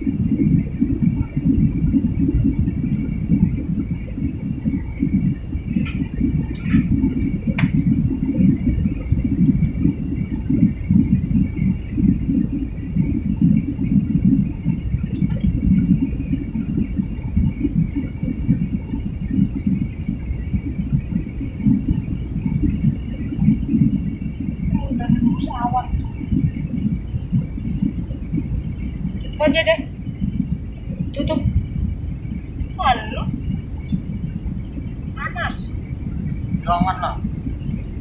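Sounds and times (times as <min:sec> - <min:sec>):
airliner cabin engine rumble: 0:00.0 - 0:38.0
faint high whine: 0:00.0 - 0:38.0.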